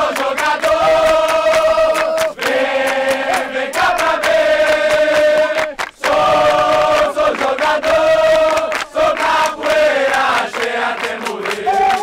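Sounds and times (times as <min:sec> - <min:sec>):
crowd singing in unison: 0:00.0 - 0:12.0
hand clapping: 0:00.0 - 0:12.0.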